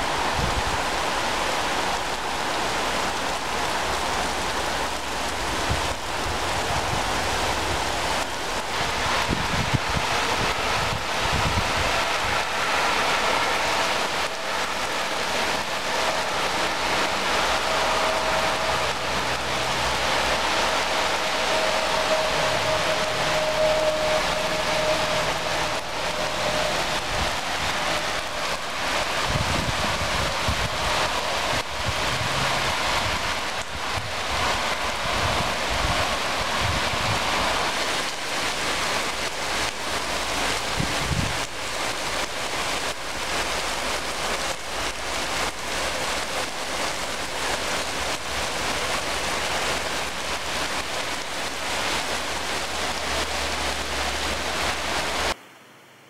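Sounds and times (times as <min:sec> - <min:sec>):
heavy rain on asphalt: 0:00.0 - 0:56.0.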